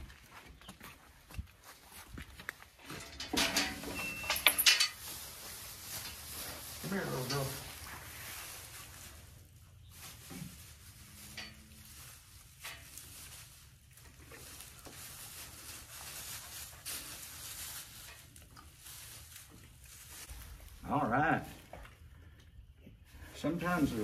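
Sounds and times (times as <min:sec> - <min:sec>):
straw rustling under hooves: 0:00.0 - 0:24.0.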